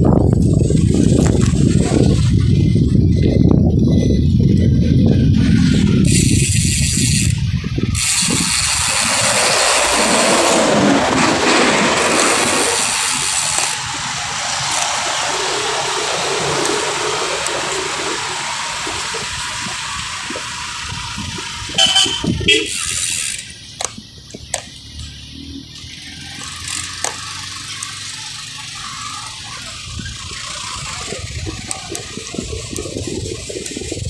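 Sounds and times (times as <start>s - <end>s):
wind rushing over microphone: 0.0s - 24.6s, 28.7s - 34.0s.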